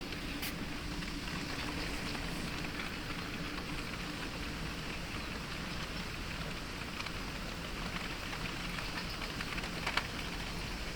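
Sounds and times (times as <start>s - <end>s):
heavy rain: 0.0s - 10.9s.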